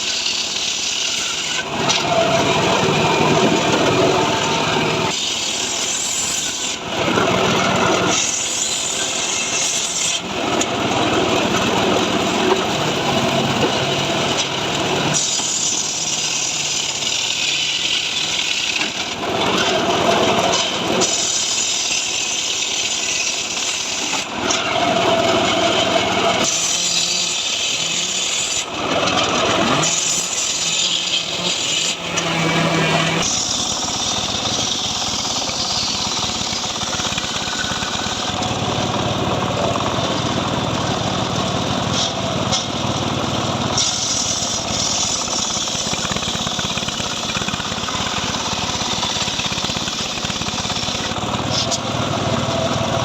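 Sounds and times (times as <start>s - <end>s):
saw cutting wood: 0.0s - 52.8s.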